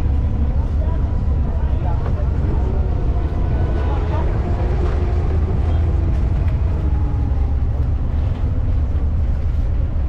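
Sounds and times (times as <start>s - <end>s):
diesel boat engine idling: 0.0s - 10.0s.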